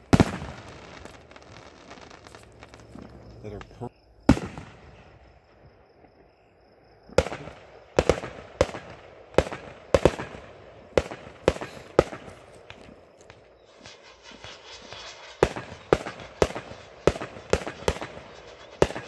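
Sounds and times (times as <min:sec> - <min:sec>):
fireworks bangs: 0:00.0 - 0:06.3, 0:07.1 - 0:19.0.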